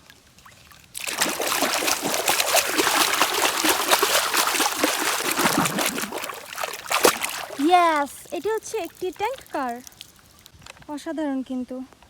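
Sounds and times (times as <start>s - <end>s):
water splashing and trickling: 0.0s - 10.6s.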